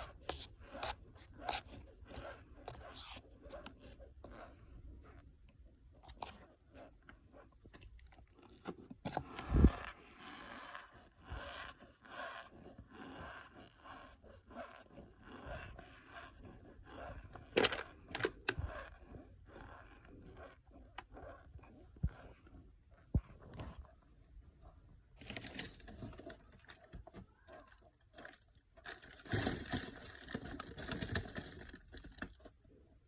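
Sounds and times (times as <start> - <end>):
cornstarch squeaky crunching: 0.0 - 33.0.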